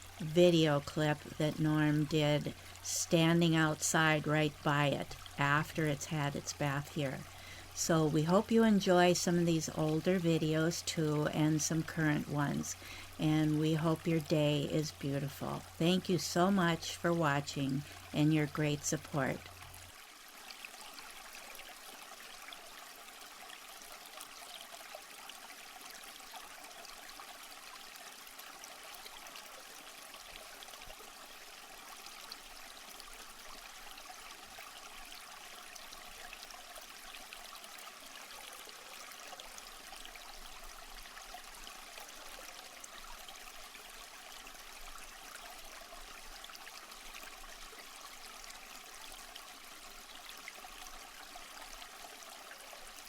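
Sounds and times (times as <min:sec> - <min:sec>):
water trickling and splashing: 0:00.0 - 0:53.0.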